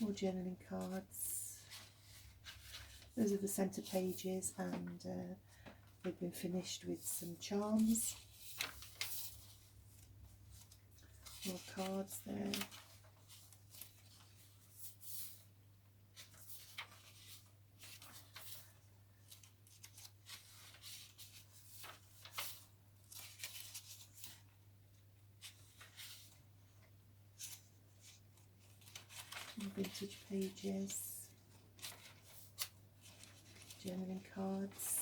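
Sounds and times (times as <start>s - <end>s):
paper pages rustling: 0.8s - 6.2s, 7.2s - 24.6s, 25.3s - 35.0s.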